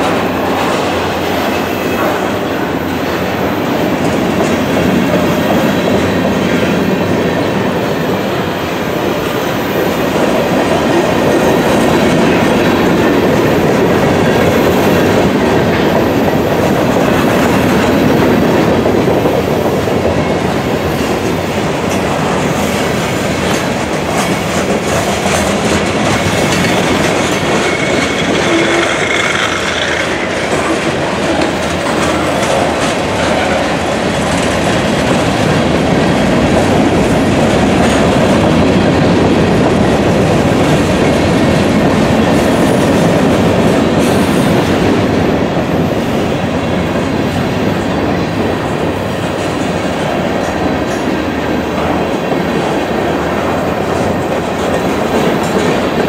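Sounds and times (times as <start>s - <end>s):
wheels clicking over rail joints: 0.0s - 45.8s
steel wheels rolling on rail: 0.0s - 56.0s.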